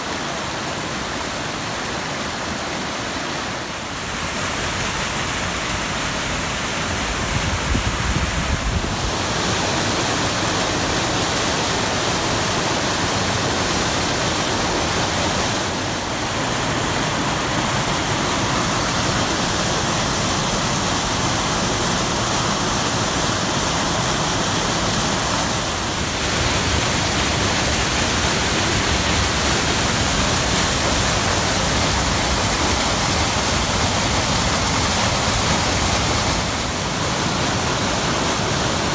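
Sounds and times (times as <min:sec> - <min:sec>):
waterfall rushing over rocks: 0:00.0 - 0:38.9.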